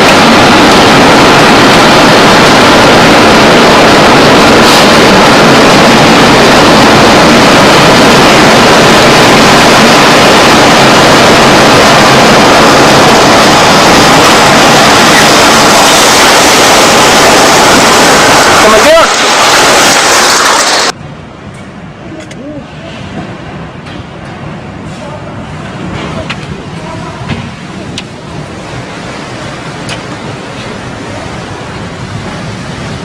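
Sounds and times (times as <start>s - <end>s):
storm wind roaring: 0.0s - 33.0s.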